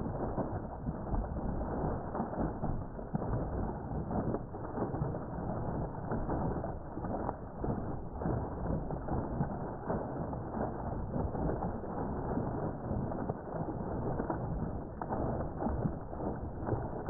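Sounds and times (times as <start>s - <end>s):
water gushing into a pond: 0.0s - 17.0s.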